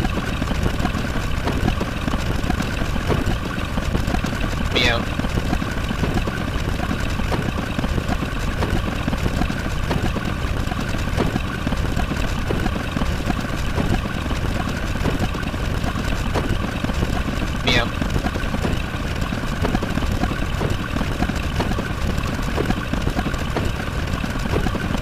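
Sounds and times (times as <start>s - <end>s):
engine-like rumble: 0.0s - 25.0s.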